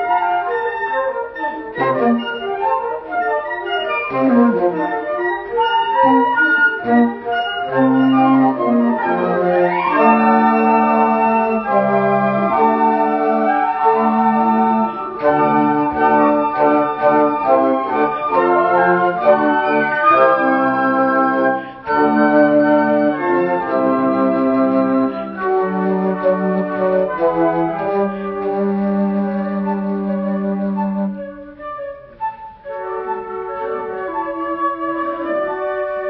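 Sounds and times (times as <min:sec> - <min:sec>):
flute choir playing chords: 0:00.0 - 0:36.0.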